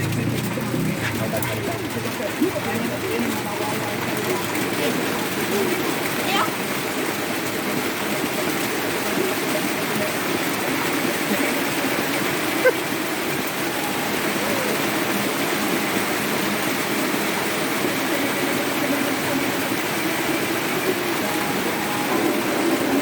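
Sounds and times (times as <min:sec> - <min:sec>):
heavy rain falling: 0:00.0 - 0:23.0
pouring water: 0:00.0 - 0:23.0.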